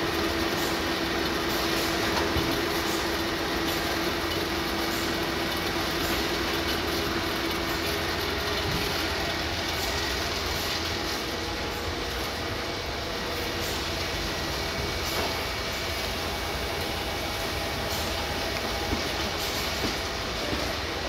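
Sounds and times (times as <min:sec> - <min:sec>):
packing machinery running: 0:00.0 - 0:21.0.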